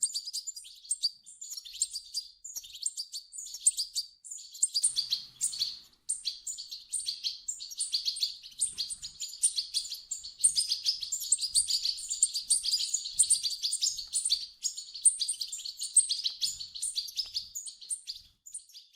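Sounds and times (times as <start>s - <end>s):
chicks twittering: 0.0s - 18.9s.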